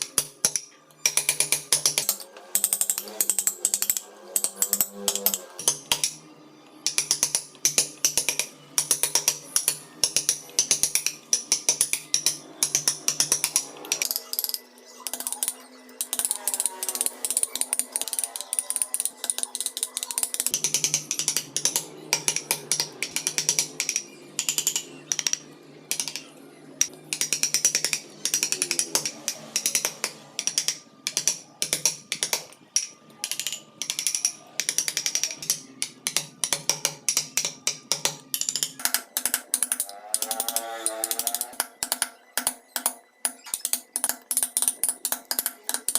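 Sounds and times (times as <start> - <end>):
carving tools cutting wood: 0.0 - 45.9.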